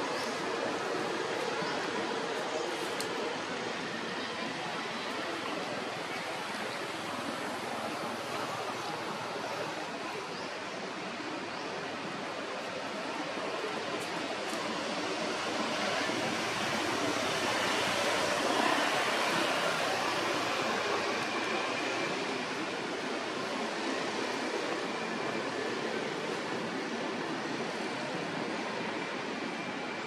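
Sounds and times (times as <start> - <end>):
steady rushing outdoor noise: 0.0 - 30.0.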